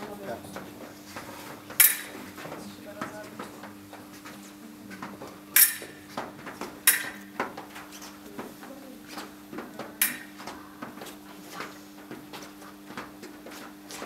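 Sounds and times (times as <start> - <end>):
low electrical hum: 0.0 - 14.0
shoes tapping on floor: 0.0 - 14.0.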